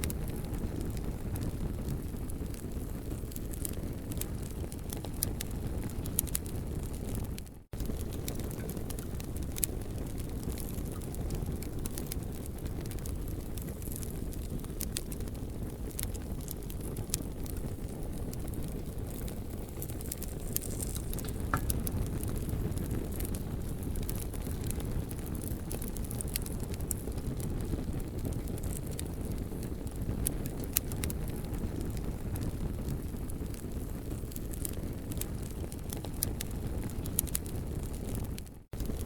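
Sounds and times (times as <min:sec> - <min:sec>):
campfire crackling: 0:00.0 - 0:39.0
sharp pops of fire: 0:00.0 - 0:39.0.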